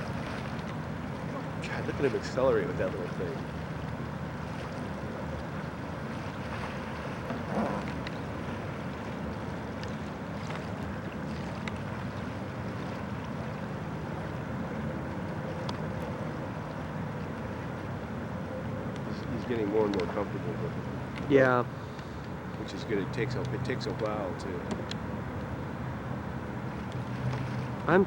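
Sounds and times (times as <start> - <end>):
faint water splashes: 0.0 - 28.0.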